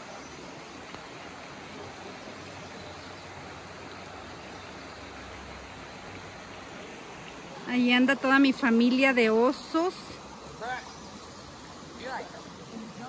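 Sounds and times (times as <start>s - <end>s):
creek water running over stones: 0.0s - 13.0s.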